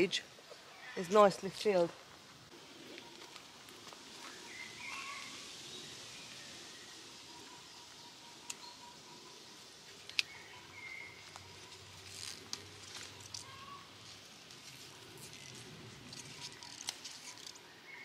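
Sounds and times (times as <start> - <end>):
pea vines rustling: 0.0 - 17.7.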